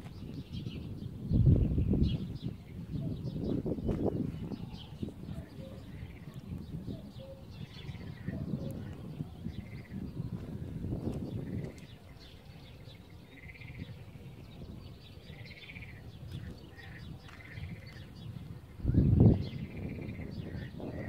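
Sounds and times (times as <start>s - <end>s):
birds calling and chirping: 0.0s - 21.0s.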